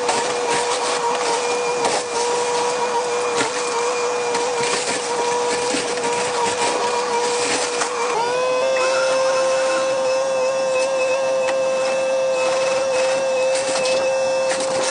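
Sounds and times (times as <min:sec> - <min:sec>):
excavator engine whining: 0:00.0 - 0:14.9.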